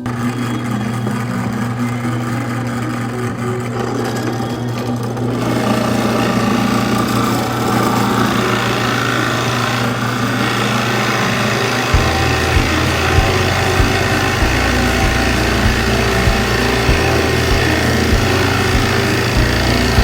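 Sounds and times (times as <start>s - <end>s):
electric power tool running: 0.0s - 20.0s.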